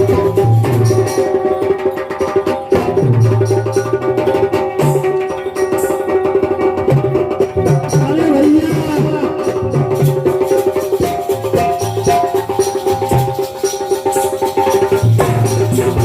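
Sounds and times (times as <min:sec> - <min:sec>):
fast hand-drum strokes: 0:00.0 - 0:16.0
held melodic tones: 0:00.0 - 0:16.0.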